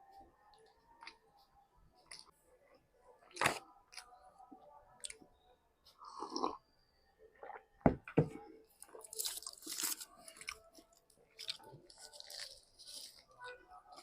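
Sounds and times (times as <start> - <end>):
chewing and crunching food: 0.0 - 7.8, 8.4 - 14.0.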